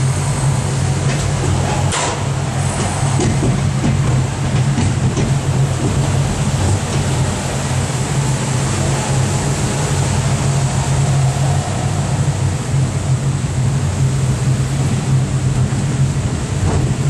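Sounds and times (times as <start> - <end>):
train engine hum: 0.0 - 17.0
train travel noise: 0.0 - 17.0.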